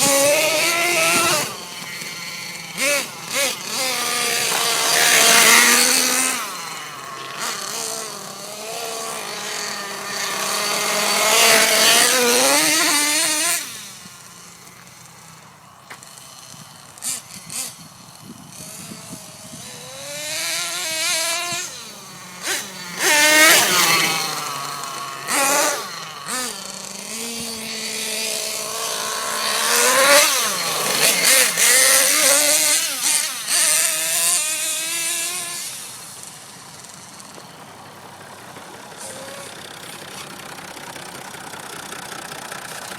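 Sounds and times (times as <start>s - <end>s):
rc truck engine revving: 0.0s - 42.9s.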